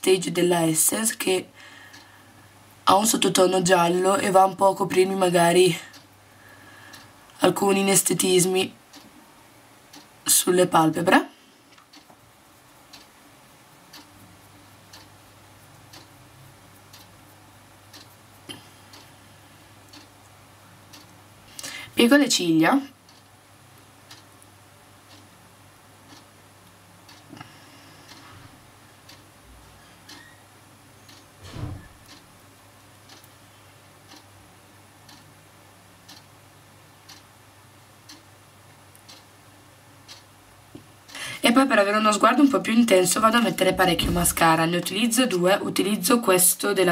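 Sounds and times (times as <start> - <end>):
clock ticking: 0.0 - 9.2, 9.8 - 28.4, 29.0 - 29.4, 30.0 - 30.4, 31.0 - 35.4, 36.0 - 45.4
low room hum: 0.0 - 46.9.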